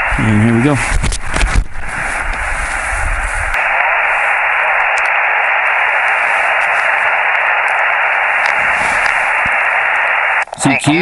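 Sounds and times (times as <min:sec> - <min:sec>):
radio receiver static hiss: 0:00.0 - 0:11.0.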